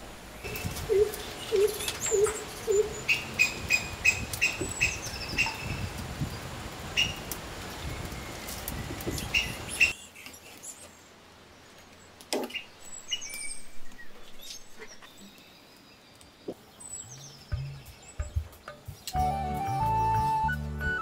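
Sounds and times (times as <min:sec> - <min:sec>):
small birds chirping: 0:00.3 - 0:19.2.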